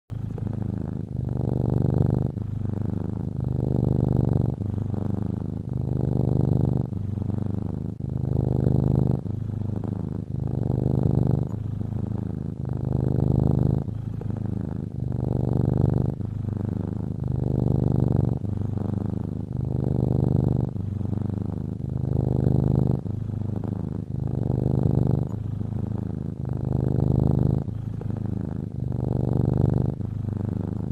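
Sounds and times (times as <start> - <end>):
cat snoring: 0.1 - 30.9.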